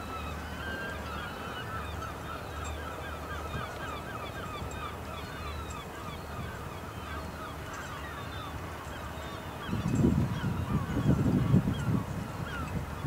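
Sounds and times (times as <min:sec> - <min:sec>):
waterbirds calling: 0:00.0 - 0:13.0.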